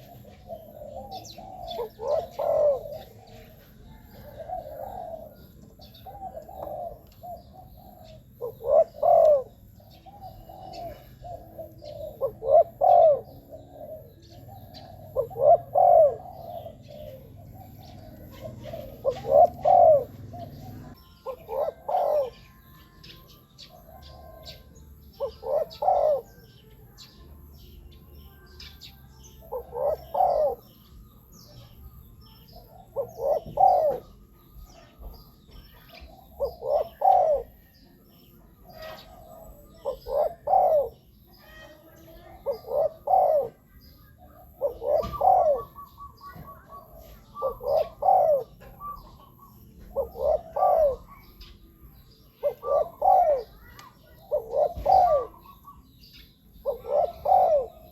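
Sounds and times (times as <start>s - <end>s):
dove cooing: 0.0s - 27.7s, 28.6s - 57.9s
small birds chirping: 0.0s - 57.9s.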